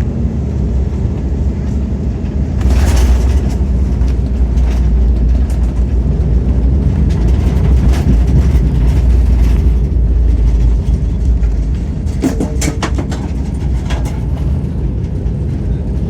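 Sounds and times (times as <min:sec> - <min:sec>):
jet taxiing low rumble: 0:00.0 - 0:16.0
cabin rattling: 0:02.6 - 0:16.0.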